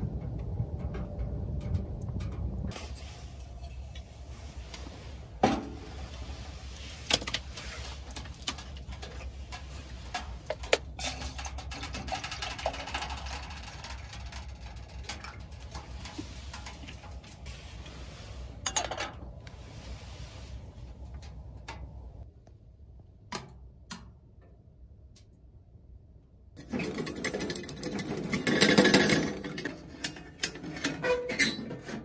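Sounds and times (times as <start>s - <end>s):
pellet stove rumbling: 0.0s - 22.2s, 26.6s - 32.0s.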